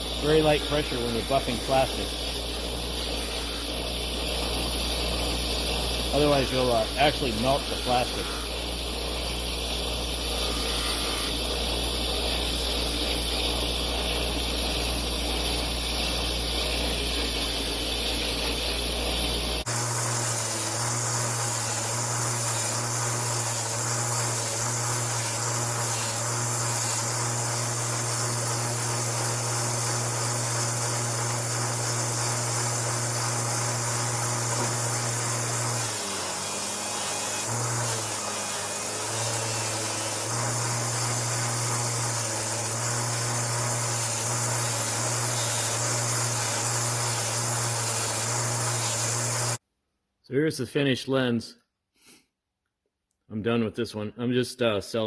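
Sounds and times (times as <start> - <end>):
bench grinder buffing plastic: 0.0 - 49.6.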